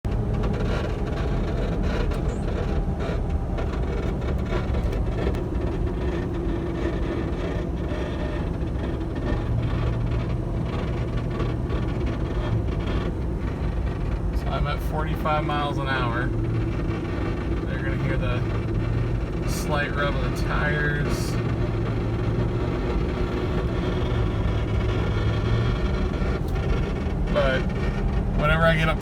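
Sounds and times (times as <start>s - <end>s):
road and tyre noise: 0.0s - 29.0s
low hum: 0.1s - 29.0s.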